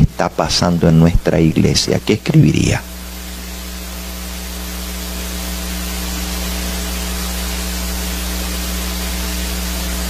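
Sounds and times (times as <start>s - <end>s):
low electrical mains hum: 0.0s - 10.0s
steady hiss: 0.0s - 10.0s.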